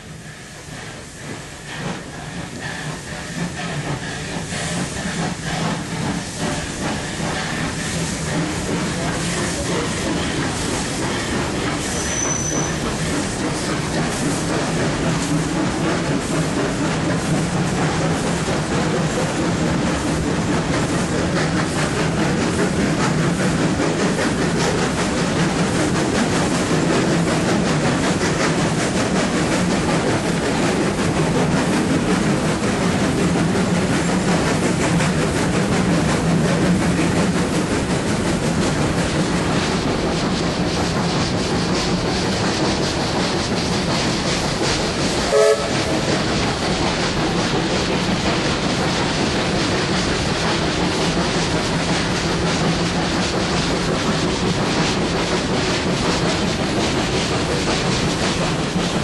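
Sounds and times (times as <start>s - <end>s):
train wheels rumbling and rattling: 0.0s - 59.0s.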